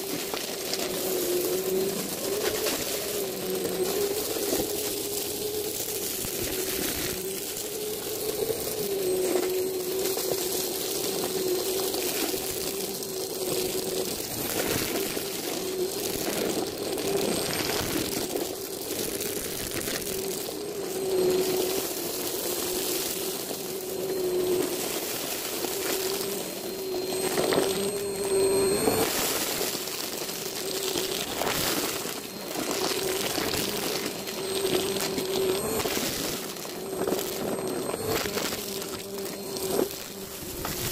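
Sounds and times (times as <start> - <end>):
debris crackling through vacuum: 0.0 - 40.9
vacuum cleaner motor whine: 0.0 - 40.9.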